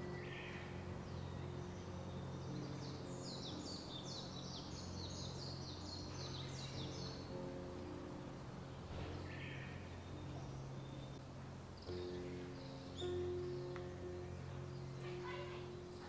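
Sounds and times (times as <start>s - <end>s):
low hum: 0.0s - 16.0s
songbird singing falling notes: 0.0s - 16.0s.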